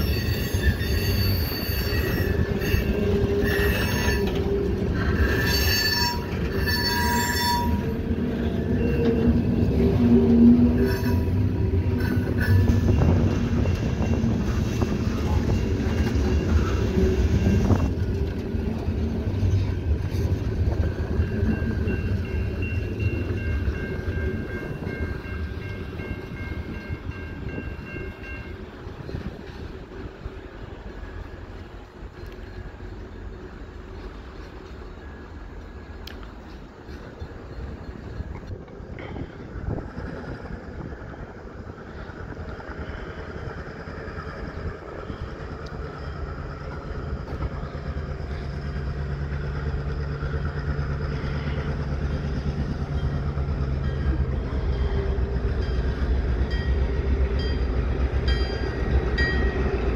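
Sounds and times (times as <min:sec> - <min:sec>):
crossing warning bell dinging: 0:00.0 - 0:29.9, 0:30.8 - 0:59.9
freight cars rumbling: 0:00.0 - 0:59.9
steel wheels squealing on rails: 0:00.0 - 0:59.9.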